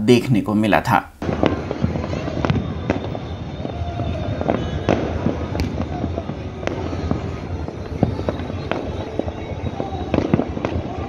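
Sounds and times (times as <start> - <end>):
fireworks bangs and pops: 1.2 - 11.0.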